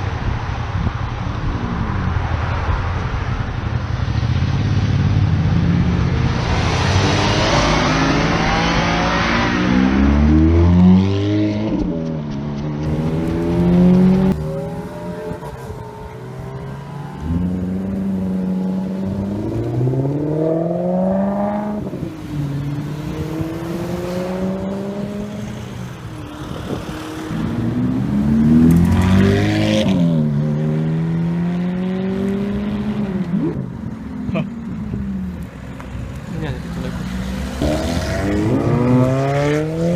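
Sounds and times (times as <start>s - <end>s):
car engines accelerating hard: 0.0s - 39.9s.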